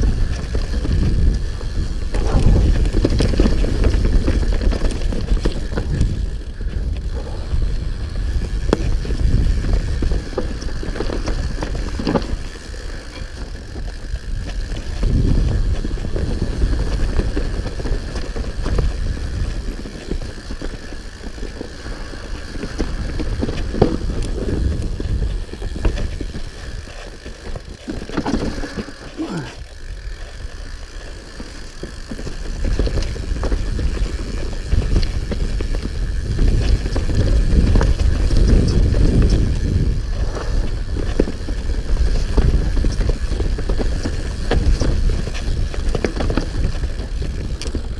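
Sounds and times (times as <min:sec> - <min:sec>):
bike frame rattling and knocking: 0:00.0 - 0:47.9
bike tyre rumble on dirt: 0:00.0 - 0:47.9.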